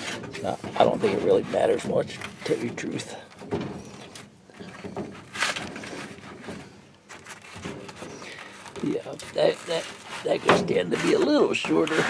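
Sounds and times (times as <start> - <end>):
furnace filter rustling and scraping: 0.0 - 12.0.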